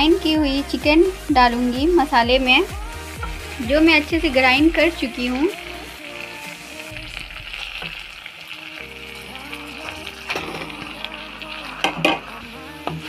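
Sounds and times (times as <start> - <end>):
meat sizzling in oil in a pan: 0.0 - 13.0.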